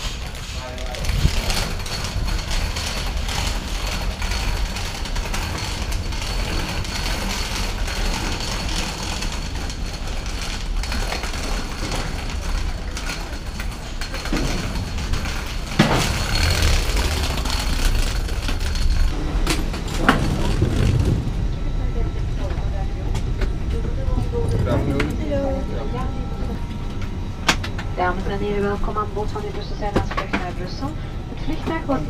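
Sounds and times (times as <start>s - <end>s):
high machinery whine: 0.0s - 32.0s
low mechanical rumble: 0.0s - 32.0s.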